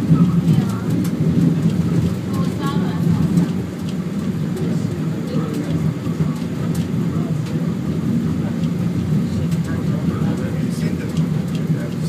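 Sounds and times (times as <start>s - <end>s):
funicular car rumbling: 0.0s - 12.0s.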